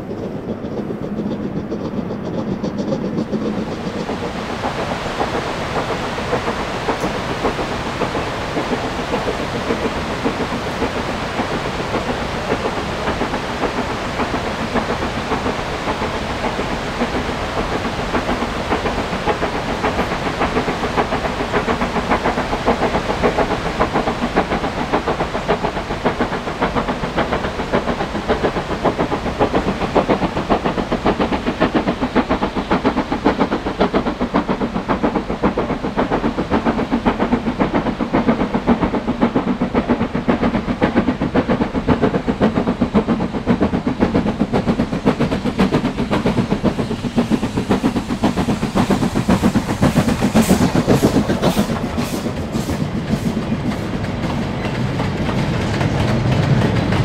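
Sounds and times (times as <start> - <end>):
steam hiss: 0.0 - 57.0
steam locomotive exhaust chuffing: 0.0 - 57.0.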